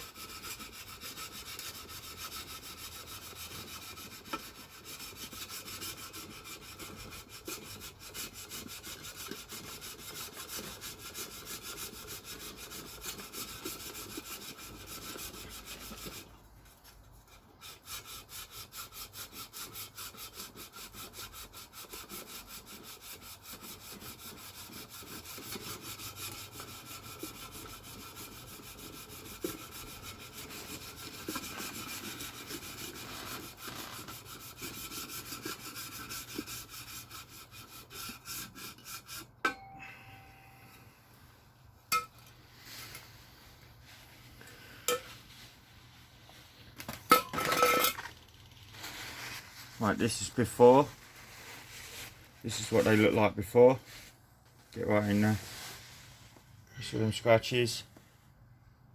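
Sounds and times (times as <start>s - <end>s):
scraping on sandpaper: 0.0s - 41.5s, 42.3s - 46.8s, 47.4s - 58.2s.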